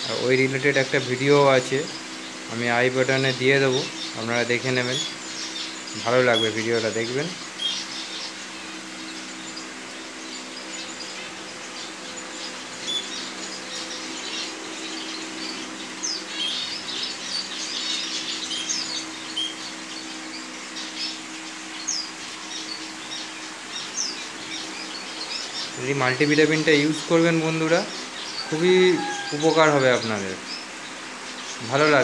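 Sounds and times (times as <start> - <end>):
finches chirping: 0.0 - 32.0
steady low hum: 0.0 - 32.0.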